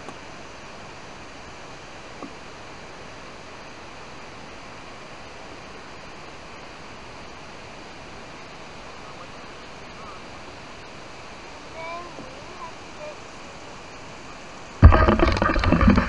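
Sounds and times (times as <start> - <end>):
hiss-like outdoor background noise: 0.0 - 16.0.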